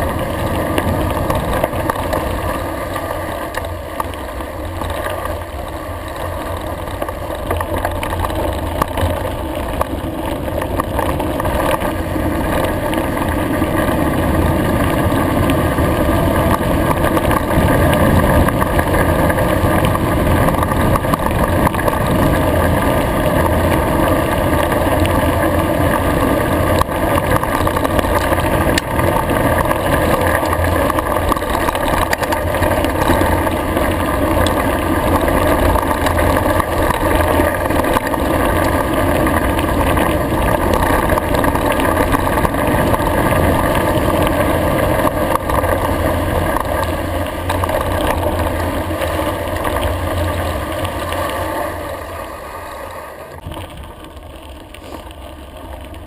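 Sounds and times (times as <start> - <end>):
wind noise on microphone: 0.0 - 52.3
bike rattling: 0.0 - 56.0.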